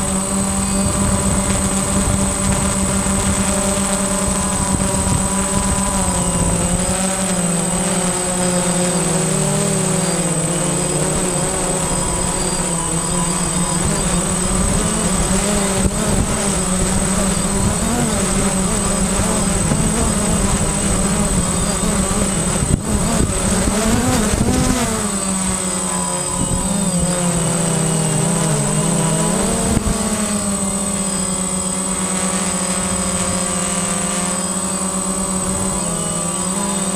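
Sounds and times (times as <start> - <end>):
drone propellers buzzing: 0.0 - 36.9
high motor whine: 0.0 - 36.9.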